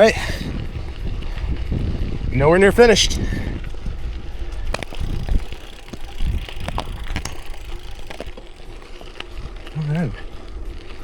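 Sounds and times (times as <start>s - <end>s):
bicycle tyres rumbling on gravel: 0.0s - 11.0s.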